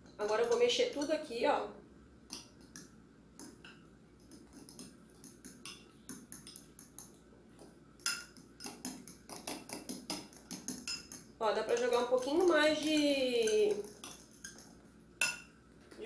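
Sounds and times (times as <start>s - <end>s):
metal spoon stirring batter in glass bowl: 0.2s - 1.3s, 2.3s - 15.6s.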